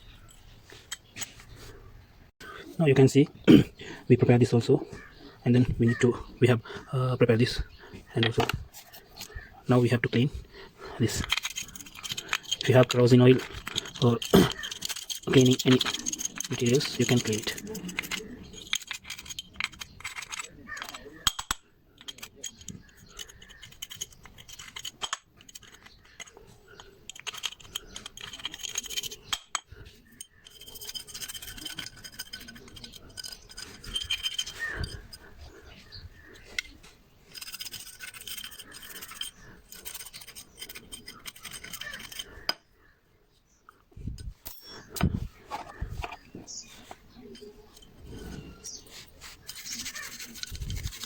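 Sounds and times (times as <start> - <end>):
brush scrubbing metal parts: 7.2 - 42.6, 44.4 - 51.0.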